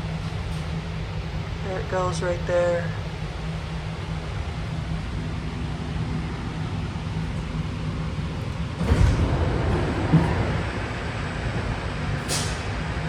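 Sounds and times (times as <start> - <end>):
rumble with a hiss: 0.0 - 13.0
train car humming: 0.0 - 13.0.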